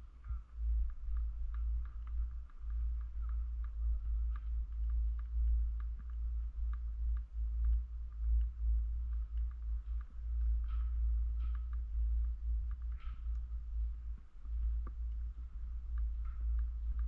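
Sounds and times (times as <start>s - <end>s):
light clicks: 0.2s - 17.0s.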